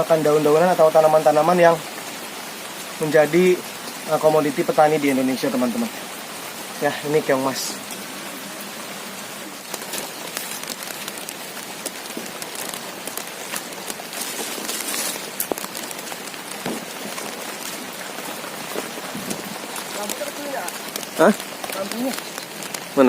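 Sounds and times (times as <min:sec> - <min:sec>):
heavy rain falling: 0:00.0 - 0:23.0
raindrops hitting close: 0:00.0 - 0:23.0.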